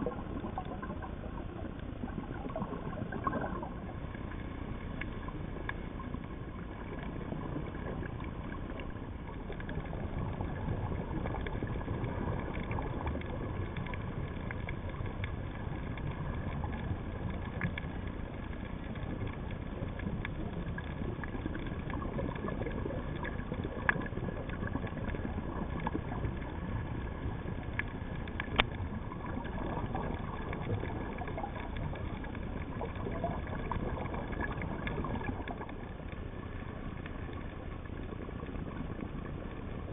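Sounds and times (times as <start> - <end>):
crackling clicks: 0.0 - 39.9
low underwater rumble: 0.0 - 39.9.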